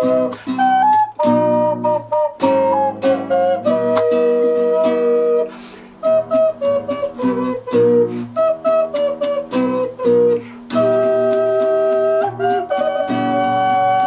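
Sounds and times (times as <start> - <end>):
double ocarina melody: 0.0 - 14.0.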